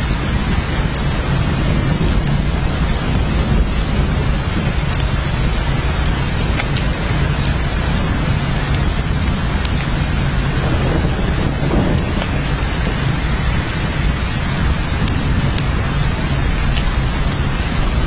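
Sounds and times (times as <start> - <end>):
low rumble: 0.0 - 18.0
rain drop ticks: 0.0 - 18.0
steady rain: 0.0 - 18.0.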